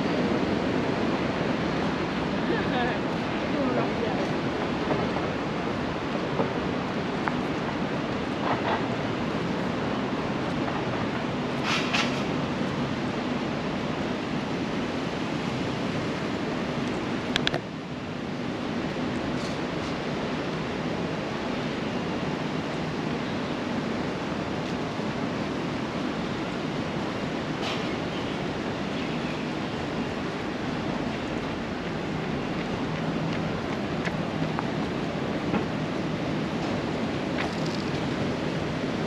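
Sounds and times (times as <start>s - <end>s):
city noise: 0.0s - 39.0s.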